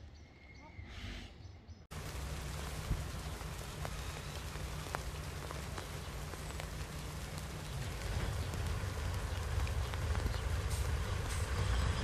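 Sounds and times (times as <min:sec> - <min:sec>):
diesel train engines rumbling: 0:01.9 - 0:12.0
steady hiss: 0:01.9 - 0:12.0.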